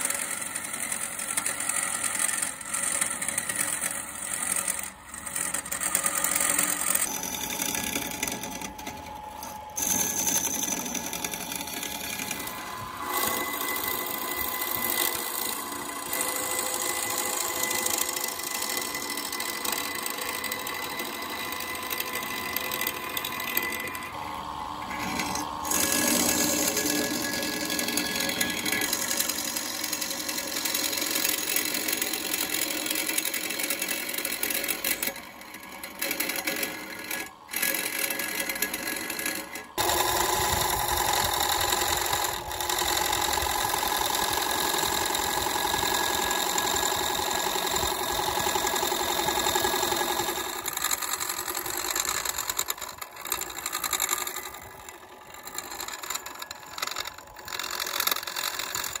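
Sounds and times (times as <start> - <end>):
turning tool cutting wood: 0.0 - 59.0
wood lathe humming: 0.0 - 59.0.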